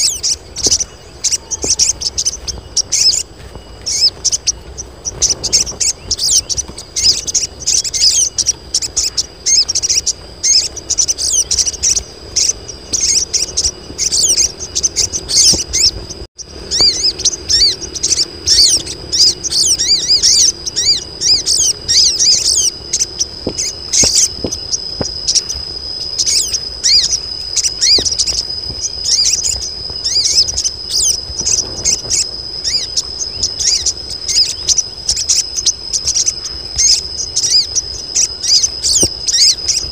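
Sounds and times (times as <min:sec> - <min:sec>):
birds chirping: 0:00.0 - 0:39.9
high insect whine: 0:00.0 - 0:39.9.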